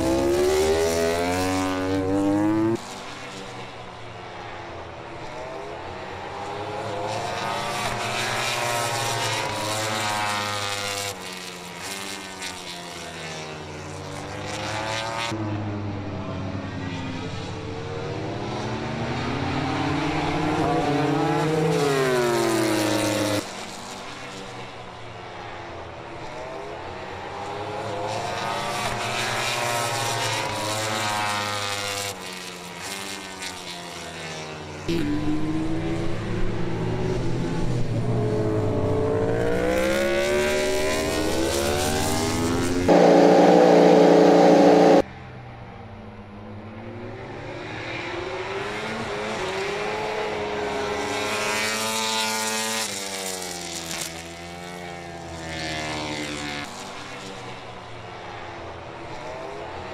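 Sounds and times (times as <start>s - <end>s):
racing motorcycle engines revving: 0.0s - 59.9s.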